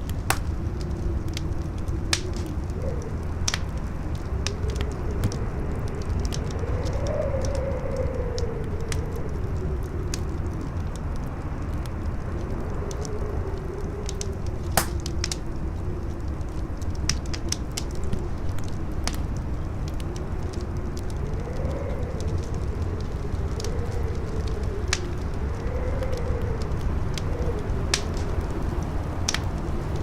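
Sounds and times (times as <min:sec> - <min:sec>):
fire crackling and popping: 0:00.0 - 0:30.0
wind howling: 0:00.0 - 0:30.0.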